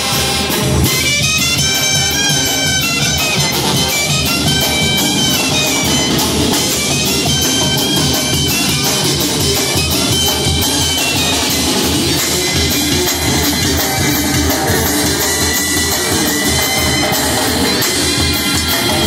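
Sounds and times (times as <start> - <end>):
bass drum and cymbals beat: 0.0 - 19.0
brass band playing: 0.0 - 19.0.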